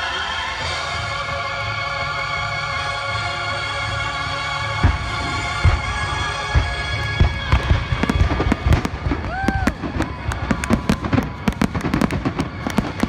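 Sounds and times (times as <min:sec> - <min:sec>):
music: 0:00.0 - 0:13.0
fireworks bangs and crackles: 0:00.6 - 0:13.0.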